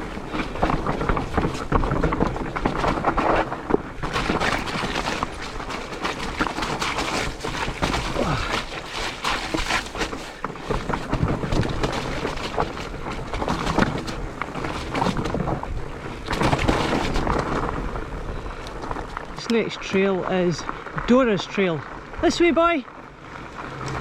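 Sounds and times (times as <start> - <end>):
bike knocks and rattles: 0.0 - 22.8
bike tyres rolling on trail: 0.0 - 24.0.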